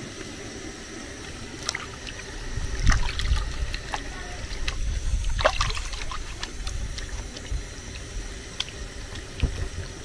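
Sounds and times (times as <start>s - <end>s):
small splashes and drips: 1.2s - 10.0s
hands sloshing in water: 1.6s - 9.8s.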